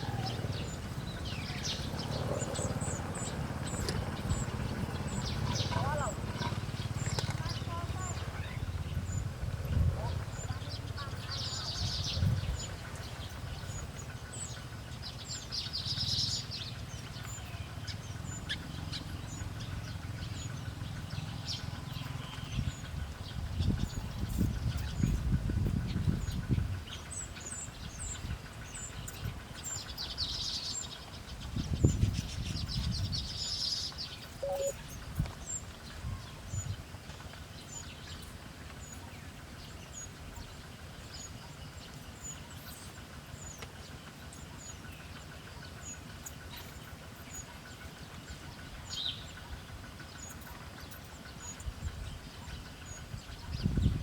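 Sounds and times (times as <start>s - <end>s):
small bird chirping: 0.0s - 54.0s.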